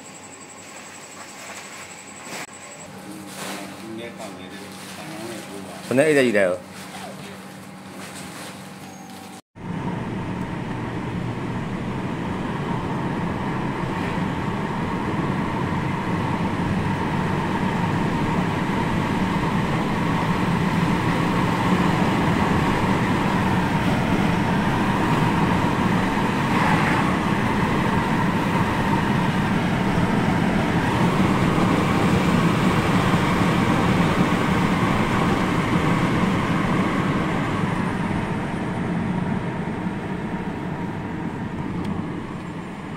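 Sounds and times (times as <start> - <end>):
car engine and road noise: 7.6 - 42.9.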